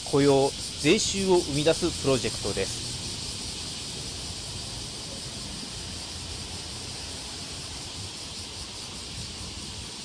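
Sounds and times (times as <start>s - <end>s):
constant high hiss: 0.0s - 10.0s
traffic rumble: 0.0s - 10.0s.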